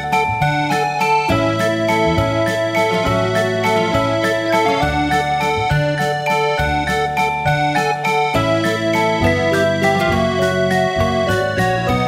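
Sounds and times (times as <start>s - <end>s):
upbeat keyboard music with beat: 0.0s - 12.0s.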